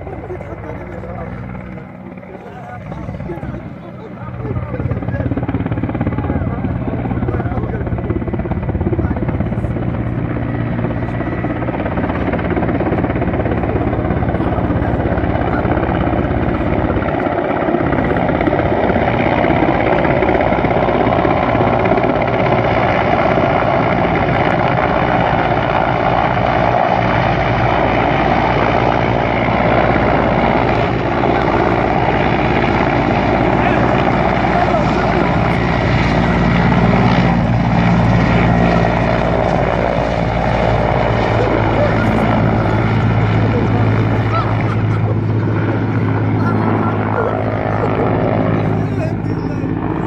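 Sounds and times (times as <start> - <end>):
helicopter rotor and engine: 0.0 - 50.0.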